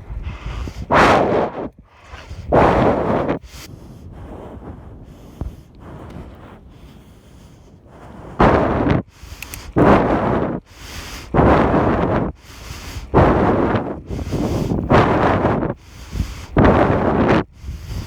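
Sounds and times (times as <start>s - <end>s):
heavy breathing into microphone: 0.0s - 18.0s.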